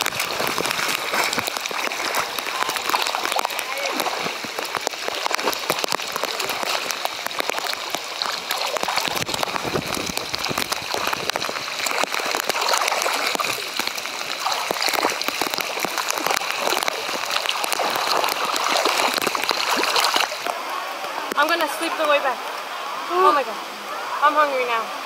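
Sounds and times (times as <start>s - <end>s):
deep water slosh: 0.0s - 20.5s
swimmer splashing: 0.0s - 20.6s
rain falling on water: 0.0s - 25.0s.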